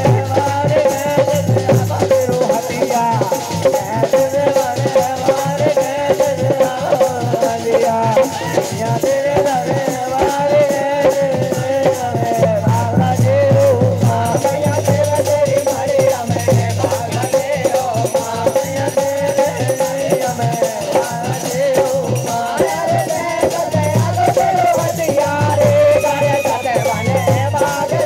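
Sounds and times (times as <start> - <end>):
dholak drum strokes: 0.0 - 28.0
jingling percussion: 0.0 - 28.0
men singing together: 0.0 - 28.0.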